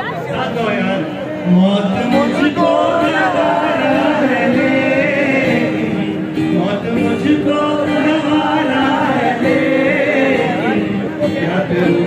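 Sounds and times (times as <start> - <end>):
man singing into microphone: 0.4 - 12.0
backing music: 1.5 - 12.0.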